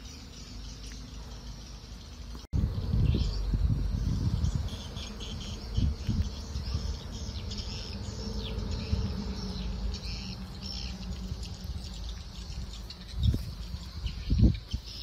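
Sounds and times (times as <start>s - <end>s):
birds chirping: 0.0s - 15.0s
insects calling: 0.0s - 15.0s
low rumbling noise: 2.5s - 15.0s.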